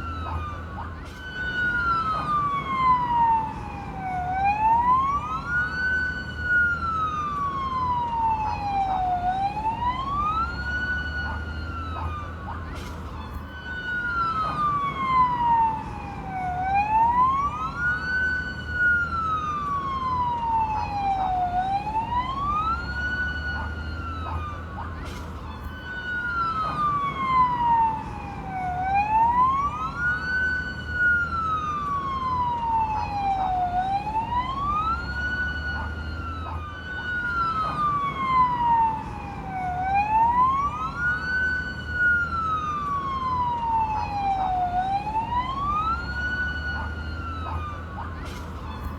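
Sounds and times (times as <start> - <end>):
fire truck siren wailing: 0.0 - 48.9.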